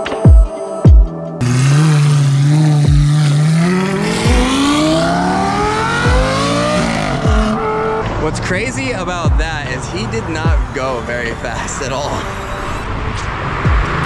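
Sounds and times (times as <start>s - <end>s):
car engine accelerating: 1.4s - 14.0s.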